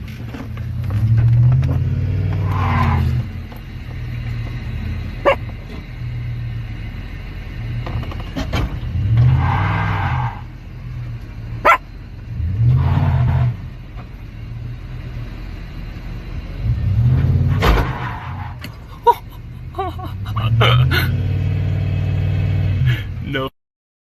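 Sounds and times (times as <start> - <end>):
car engine revving: 0.0 - 23.5.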